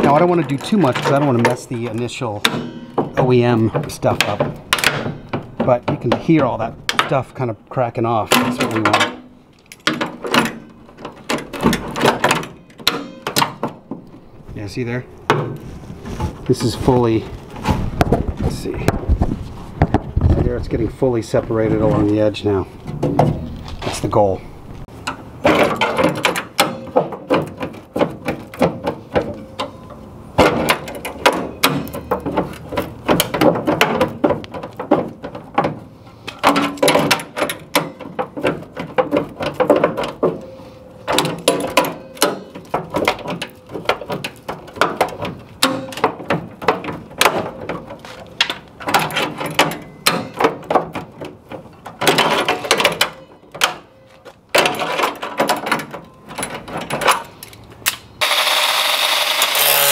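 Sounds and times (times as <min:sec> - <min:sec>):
metal spot welds cracking and creaking: 0:00.0 - 0:18.9, 0:20.7 - 0:59.9.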